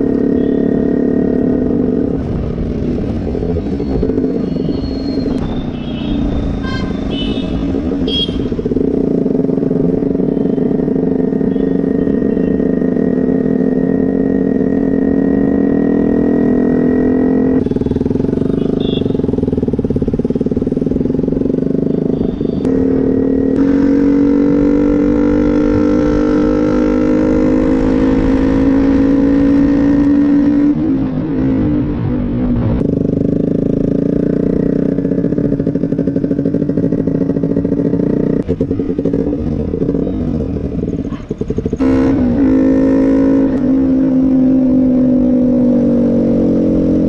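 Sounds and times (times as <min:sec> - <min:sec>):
motorcycle engine climbing in pitch: 0:00.0 - 0:47.0.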